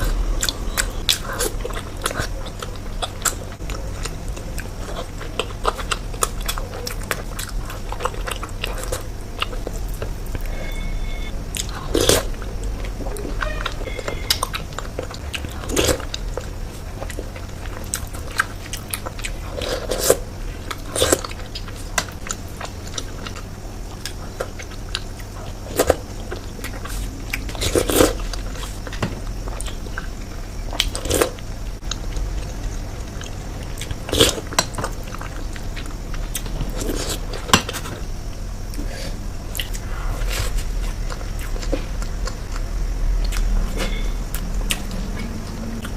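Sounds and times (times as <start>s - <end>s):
chewing: 0.0s - 10.6s, 11.5s - 45.9s.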